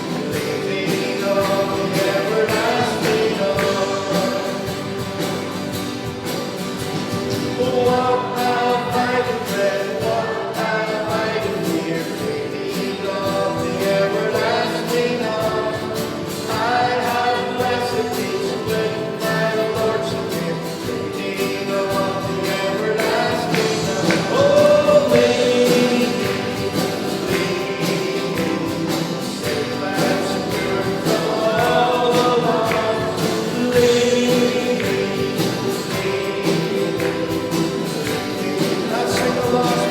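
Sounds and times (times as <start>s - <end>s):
group singing gospel: 0.0s - 39.9s
instrumental accompaniment with beat: 0.0s - 39.9s.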